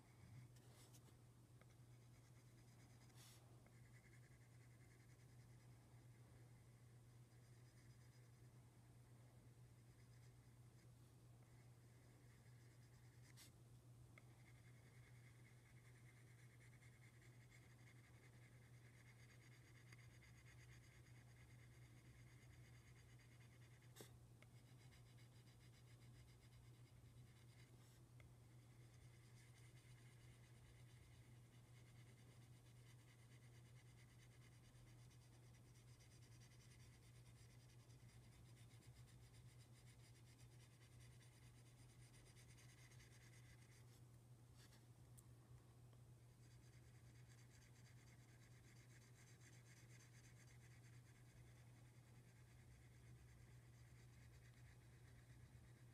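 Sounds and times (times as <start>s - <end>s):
faint low hum: 0.0s - 55.9s.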